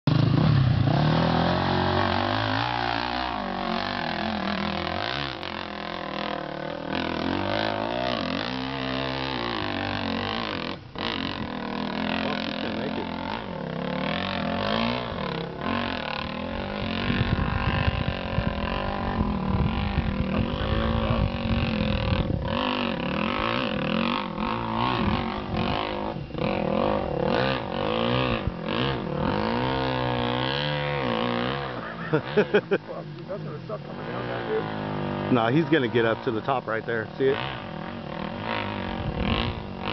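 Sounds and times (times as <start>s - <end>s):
distant dirt bike engine revving: 0.1s - 39.9s.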